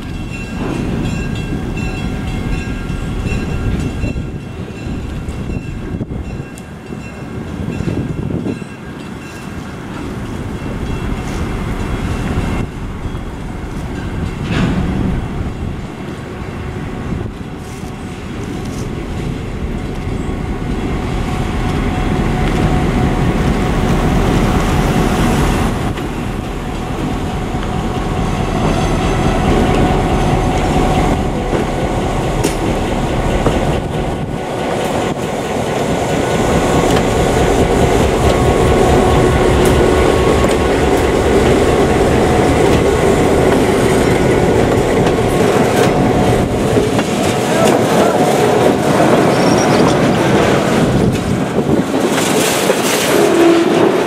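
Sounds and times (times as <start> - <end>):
diesel locomotive running: 0.0 - 54.0.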